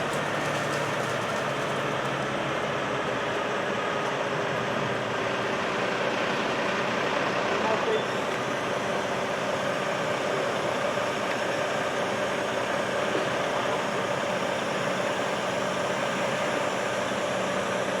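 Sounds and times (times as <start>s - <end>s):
crane engine idling: 0.0s - 18.0s.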